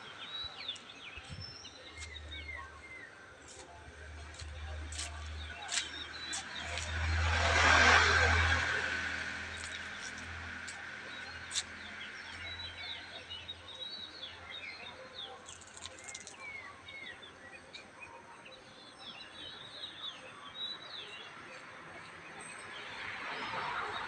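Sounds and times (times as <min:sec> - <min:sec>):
small birds chirping: 0:00.0 - 0:07.1, 0:09.4 - 0:24.0
low traffic rumble: 0:00.0 - 0:24.0.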